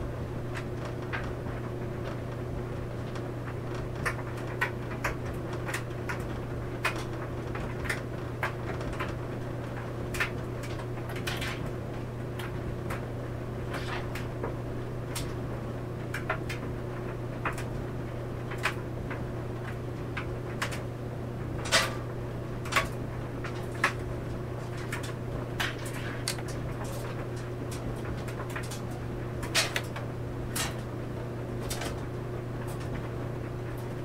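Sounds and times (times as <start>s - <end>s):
clothes dryer motor hum: 0.0s - 34.0s.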